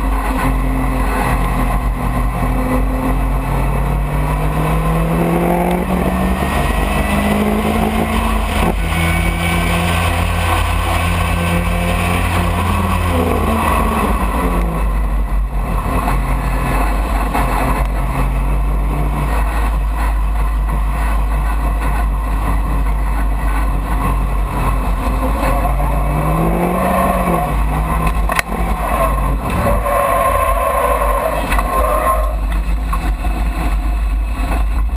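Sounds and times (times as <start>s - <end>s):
low wind rumble: 0.0s - 34.9s
race car engine: 0.0s - 34.9s.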